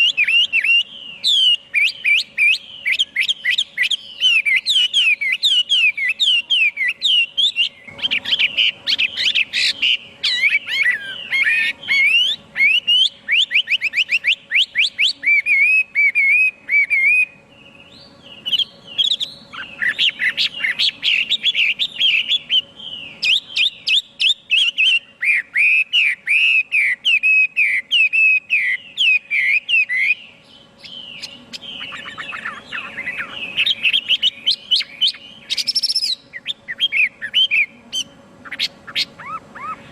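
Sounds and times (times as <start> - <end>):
bird singing whistled trills: 0.0 - 39.9
faint steady hum: 0.0 - 39.9.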